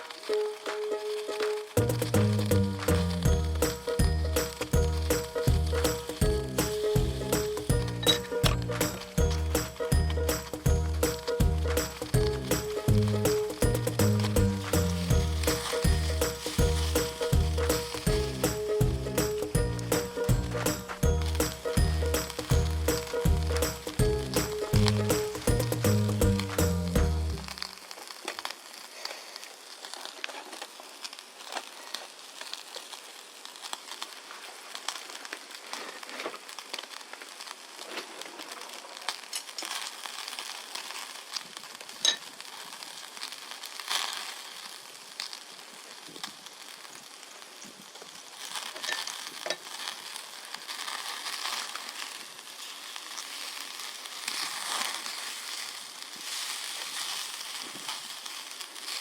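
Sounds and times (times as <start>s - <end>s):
fat crackling and popping: 0.0s - 59.0s
meat sizzling on grill: 0.0s - 59.0s.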